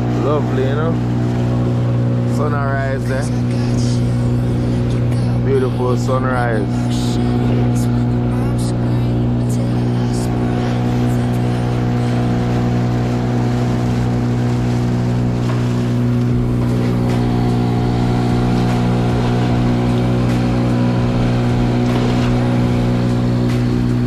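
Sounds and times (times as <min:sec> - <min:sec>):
boat motor humming: 0:00.0 - 0:24.0.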